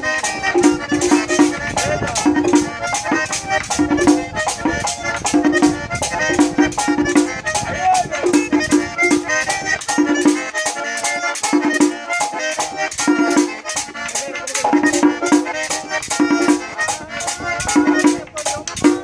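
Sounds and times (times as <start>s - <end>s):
button accordion playing: 0.0s - 19.0s
metal scraper rhythm: 0.0s - 19.0s.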